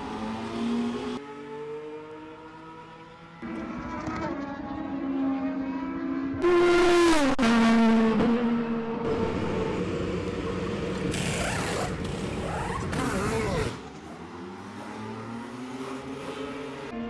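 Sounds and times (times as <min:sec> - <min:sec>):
race car engine at speed: 0:00.0 - 0:17.0.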